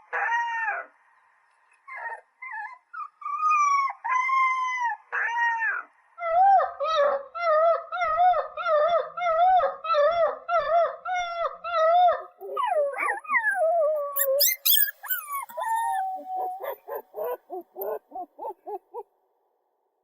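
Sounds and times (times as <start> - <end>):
puppy howling: 1.9 - 19.0.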